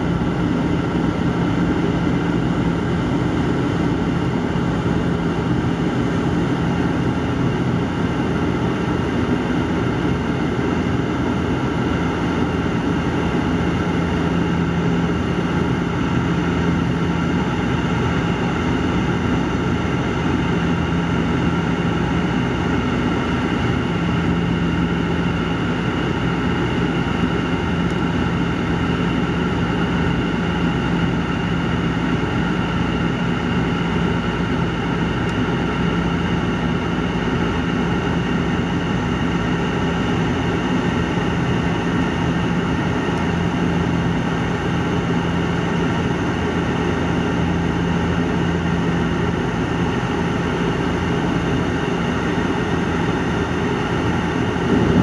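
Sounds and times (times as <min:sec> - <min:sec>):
turboprop airliner cabin drone: 0:00.0 - 0:55.0.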